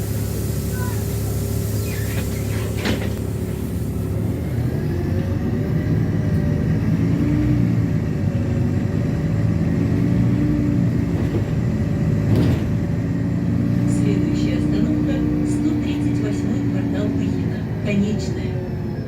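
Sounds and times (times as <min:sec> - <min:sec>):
bus engine hum from inside: 0:00.0 - 0:19.0.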